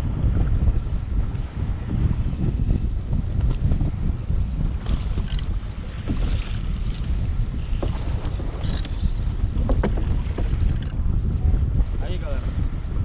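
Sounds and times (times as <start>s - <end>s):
sea noise: 0.0s - 13.0s
wind buffeting microphone: 0.0s - 13.0s.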